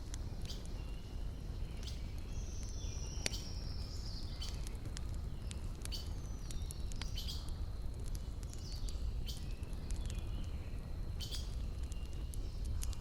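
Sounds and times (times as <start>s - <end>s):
campfire crackling and popping: 0.0s - 13.0s
birds chirping: 0.2s - 13.0s.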